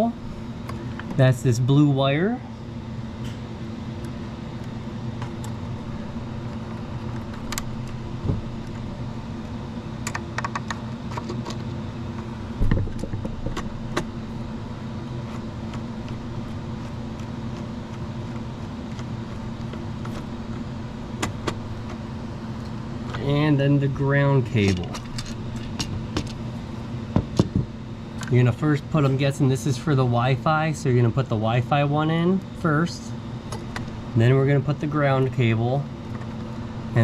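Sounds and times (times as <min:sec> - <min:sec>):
background hum: 0:00.0 - 0:37.0.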